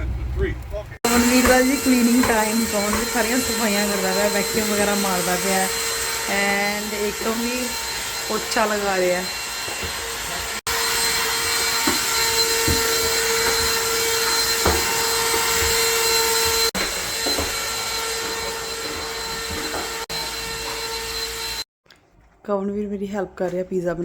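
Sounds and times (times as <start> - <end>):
vacuum cleaner running: 1.0 - 21.7.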